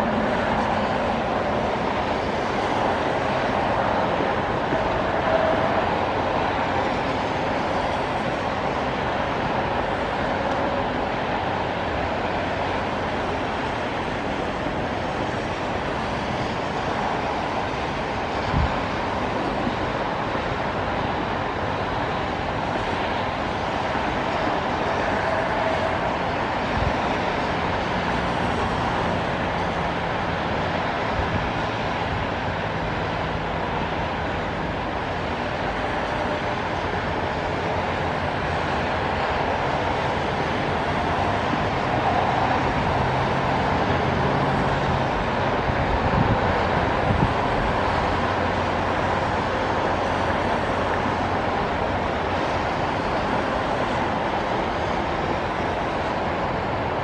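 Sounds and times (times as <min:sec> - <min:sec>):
traffic hiss on wet pavement: 0:00.0 - 0:57.0.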